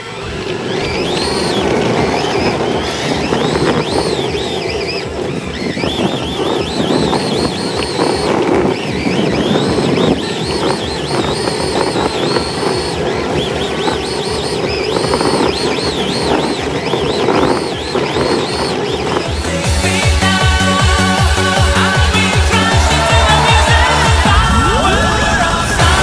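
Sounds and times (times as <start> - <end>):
electric motors whining: 0.0 - 26.0
steady rushing noise: 0.0 - 26.0.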